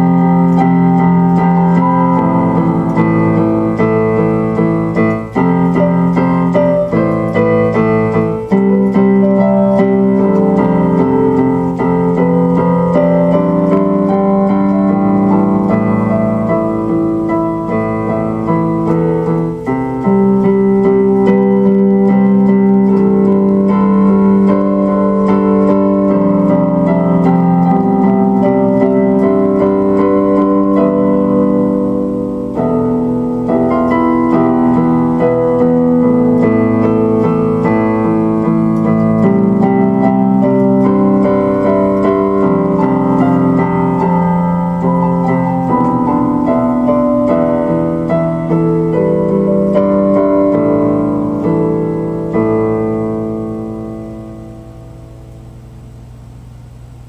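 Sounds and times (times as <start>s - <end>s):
piano playing slow chords: 0.0s - 57.0s.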